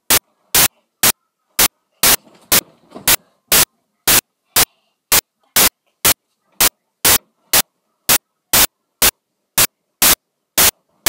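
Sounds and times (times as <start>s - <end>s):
static bursts: 0.0s - 11.0s.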